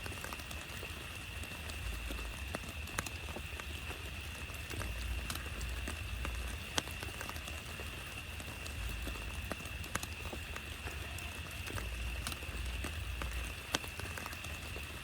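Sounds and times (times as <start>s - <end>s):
rain on a tarp: 0.0s - 15.0s.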